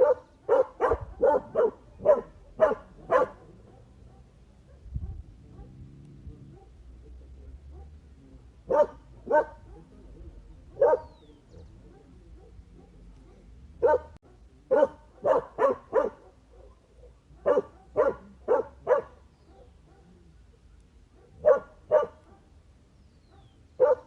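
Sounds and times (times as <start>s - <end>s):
dog barking: 0.0s - 8.1s, 8.7s - 10.1s, 10.7s - 22.6s, 23.3s - 24.0s.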